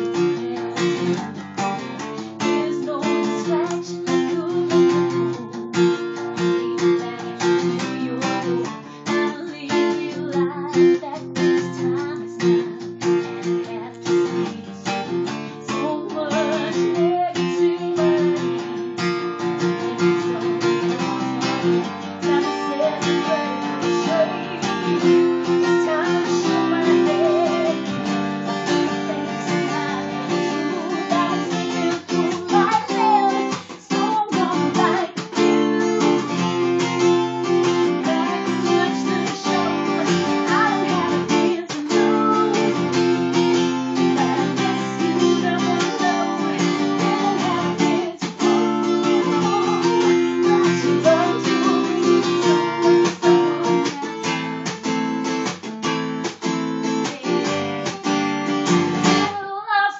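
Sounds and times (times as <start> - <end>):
woman singing: 0.0 - 54.8, 55.4 - 59.9
acoustic guitar strumming: 0.0 - 59.4.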